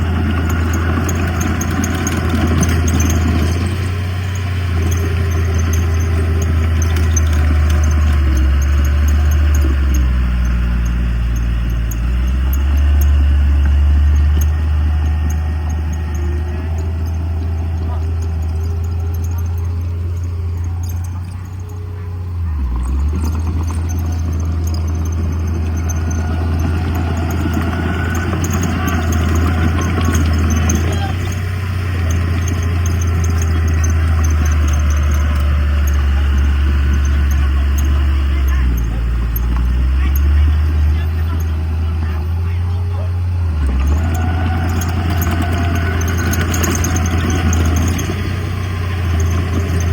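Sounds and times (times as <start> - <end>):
heavy diesel engine droning: 0.0 - 49.9.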